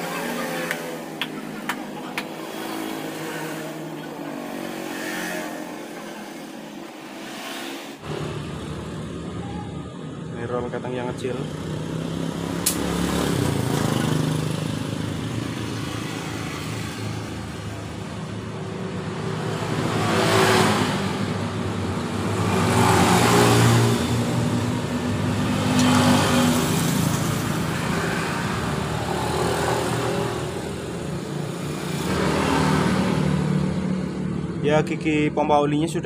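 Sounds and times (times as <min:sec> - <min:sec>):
steady engine drone: 0:00.0 - 0:36.0
vehicles passing by: 0:00.0 - 0:36.0.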